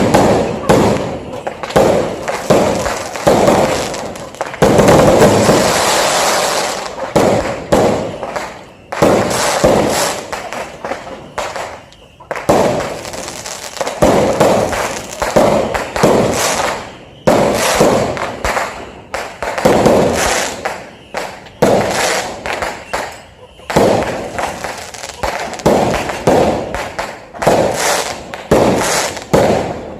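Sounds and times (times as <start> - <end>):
fireworks bangs and crackling: 0.0 - 29.9.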